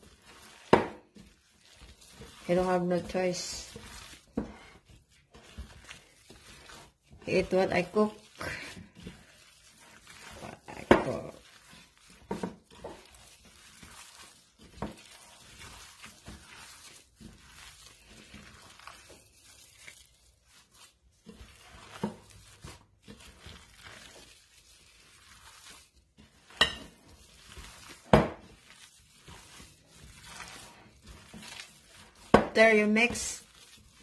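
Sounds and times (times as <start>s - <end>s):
plastic gloves rustling: 0.0s - 34.0s
wet squelching of meat: 0.0s - 34.0s.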